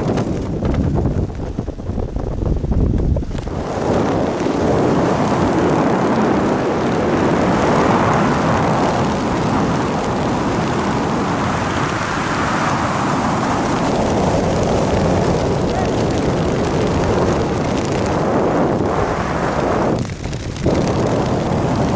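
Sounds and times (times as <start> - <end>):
wind rushing over microphone: 0.0 - 21.9.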